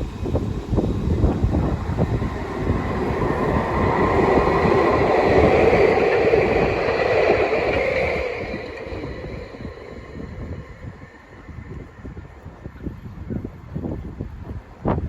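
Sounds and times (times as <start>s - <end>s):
train passing: 0.0s - 14.8s.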